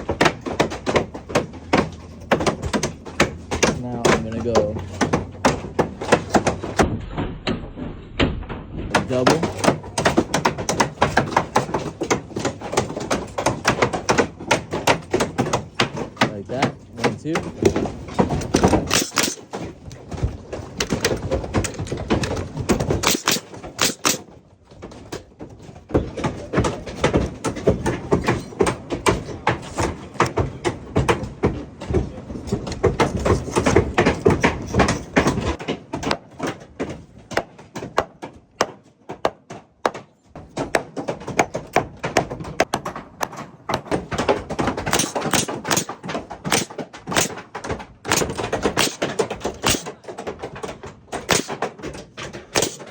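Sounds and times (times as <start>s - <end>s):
hammer knocks on wood: 0.0s - 6.9s, 8.9s - 25.0s, 25.9s - 52.9s.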